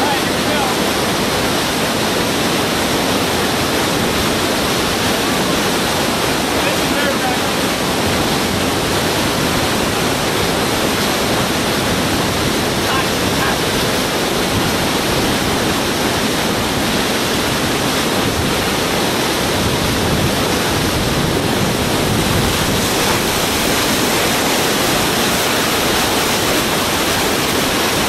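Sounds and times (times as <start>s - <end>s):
river whitewater rushing: 0.0s - 28.0s.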